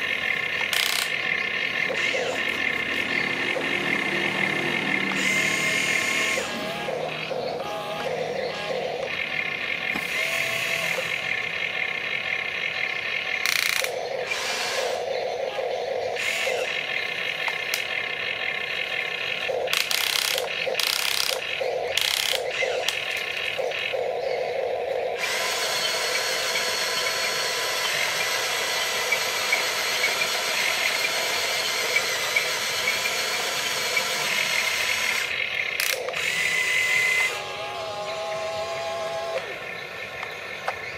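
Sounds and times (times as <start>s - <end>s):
small electric motors whining: 0.0s - 40.9s.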